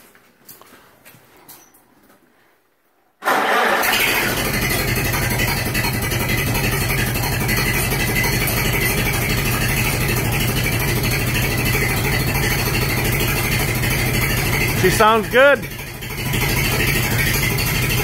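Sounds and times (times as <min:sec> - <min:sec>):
tractor engine running: 0:03.2 - 0:18.0.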